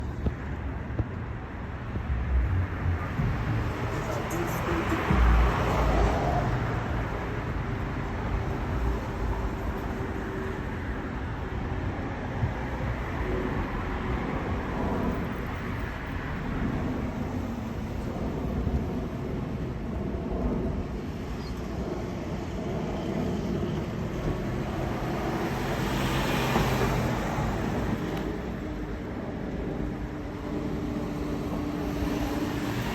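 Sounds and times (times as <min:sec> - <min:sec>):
aeroplane flying overhead: 0:00.0 - 0:32.9.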